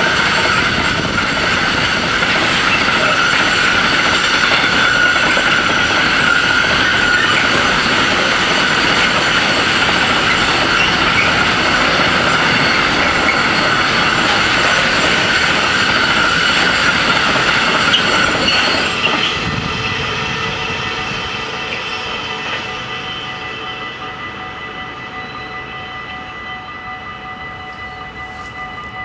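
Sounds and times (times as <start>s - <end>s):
freight train wheels rumbling: 0.0s - 29.0s
high wheel squeal: 0.0s - 29.0s.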